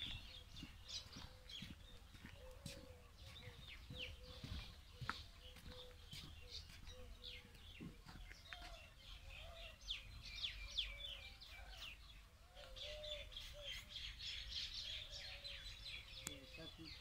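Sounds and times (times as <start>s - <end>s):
small birds chirping: 0.0s - 17.0s
soft low bird calls: 0.0s - 17.0s.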